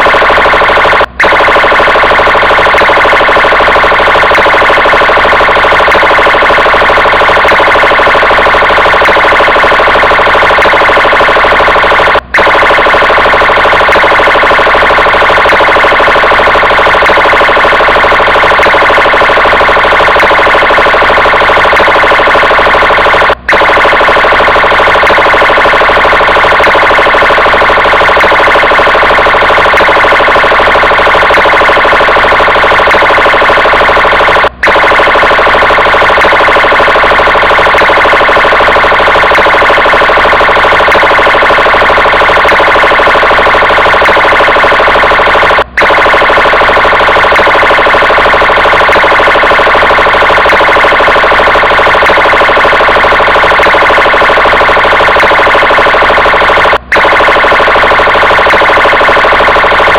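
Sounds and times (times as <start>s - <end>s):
police car siren: 0.0s - 59.9s.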